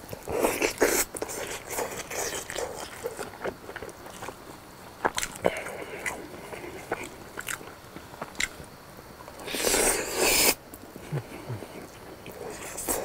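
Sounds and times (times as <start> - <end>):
chewing crispy food: 0.0 - 13.0.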